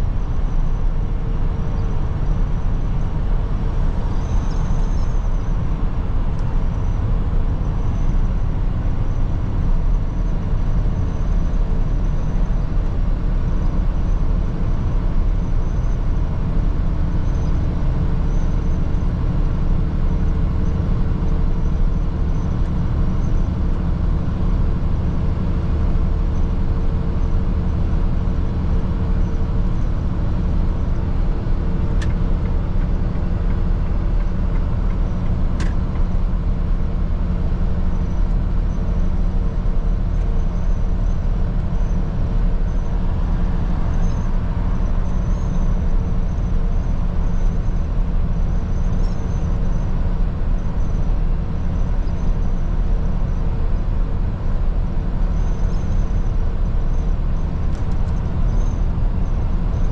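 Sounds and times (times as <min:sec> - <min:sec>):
truck diesel engine rumble: 0:00.0 - 0:59.9.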